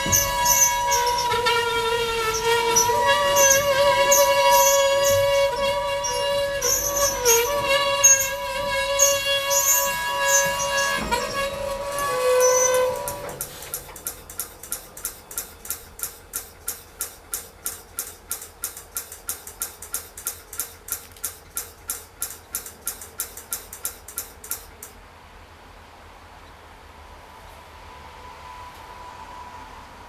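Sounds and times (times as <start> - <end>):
railroad bell ringing: 0.0 - 24.9.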